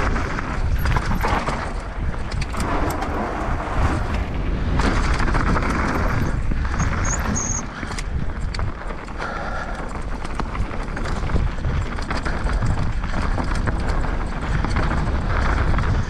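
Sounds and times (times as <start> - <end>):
bike knocks and rattles: 0.0 - 16.0
tyres rushing over dirt: 0.0 - 16.0
wind rumble on camera: 0.0 - 16.0.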